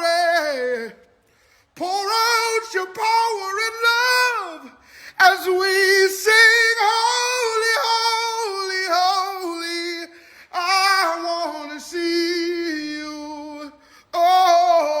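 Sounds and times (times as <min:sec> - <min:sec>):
person singing unaccompanied: 0:01.8 - 0:15.0.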